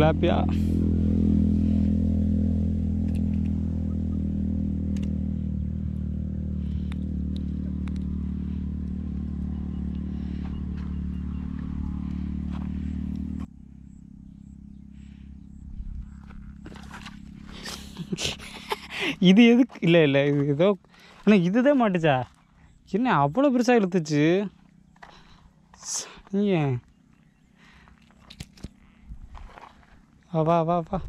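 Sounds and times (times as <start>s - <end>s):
motor engine running: 0.0s - 31.0s.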